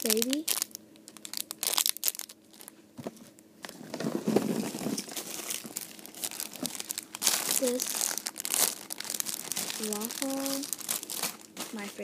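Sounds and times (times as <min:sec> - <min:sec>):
plastic wrapping crinkling: 0:00.0 - 0:02.8, 0:03.8 - 0:12.0.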